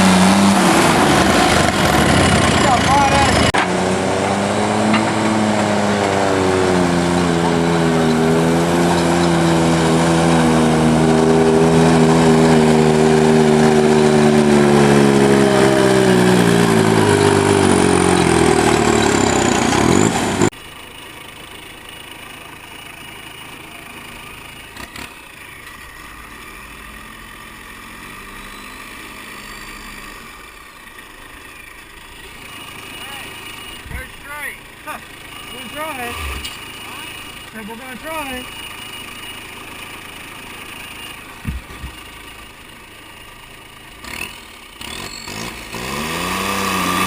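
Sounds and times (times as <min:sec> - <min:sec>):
tractor engine running under load: 0:00.0 - 0:47.0.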